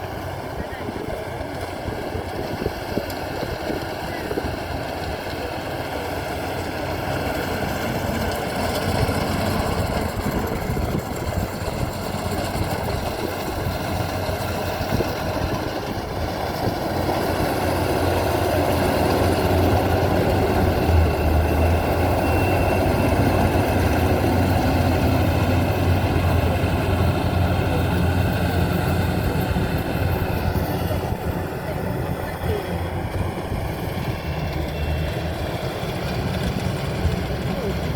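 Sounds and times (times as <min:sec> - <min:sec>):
combine harvester engine hum: 0:00.0 - 0:37.9.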